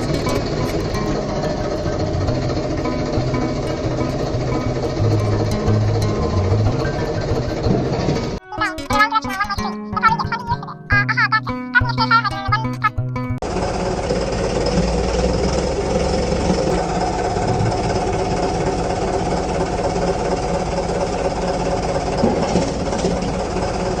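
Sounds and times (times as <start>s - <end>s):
machine engine rattling: 0.0s - 9.6s, 13.4s - 24.0s.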